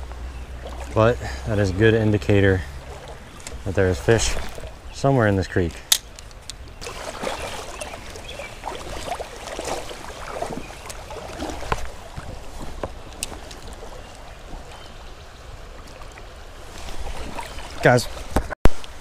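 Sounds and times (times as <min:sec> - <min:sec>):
creek flowing and gurgling: 0:00.0 - 0:19.0.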